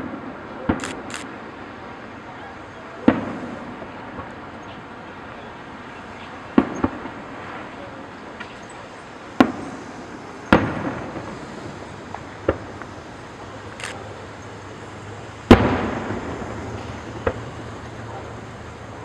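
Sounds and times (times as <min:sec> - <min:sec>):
fireworks shells booming: 0:02.8 - 0:19.0.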